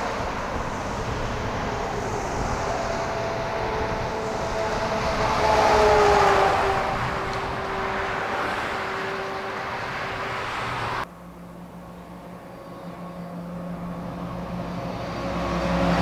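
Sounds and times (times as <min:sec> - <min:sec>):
heavy truck passing: 0:00.0 - 0:16.0.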